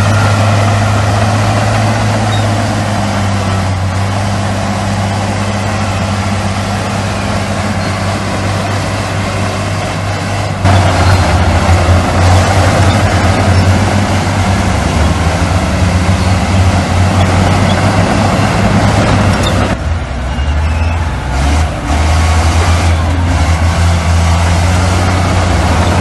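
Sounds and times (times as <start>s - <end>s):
diesel engine hum: 0.0s - 26.0s
rough clattering machinery: 0.0s - 26.0s.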